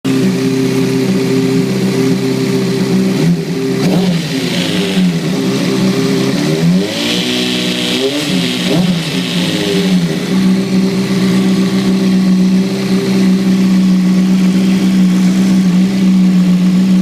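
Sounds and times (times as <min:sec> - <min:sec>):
motorcycle engine idling and revving: 0:00.1 - 0:17.0.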